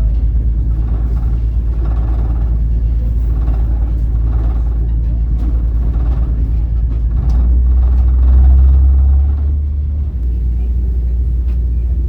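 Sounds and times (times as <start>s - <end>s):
ferry engine rumbling: 0.0s - 12.0s.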